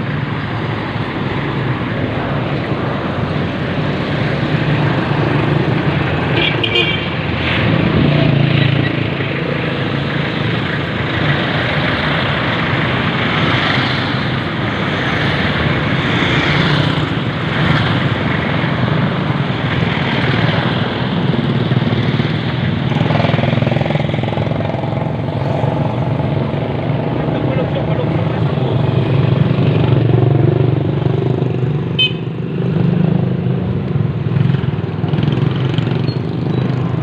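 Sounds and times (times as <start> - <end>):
motorcycle engines passing: 0.0 - 37.0
road noise: 0.0 - 37.0.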